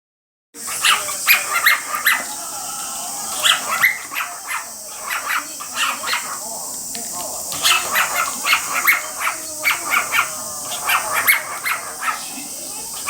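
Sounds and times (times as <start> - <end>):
cockatiel chirping: 0.6 - 13.0
steady hiss: 0.6 - 13.0.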